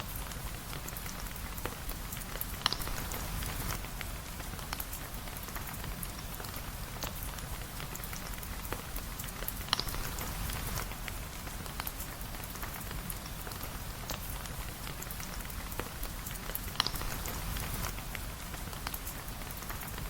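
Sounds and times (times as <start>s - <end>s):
rain falling on a cabin: 0.0s - 20.0s.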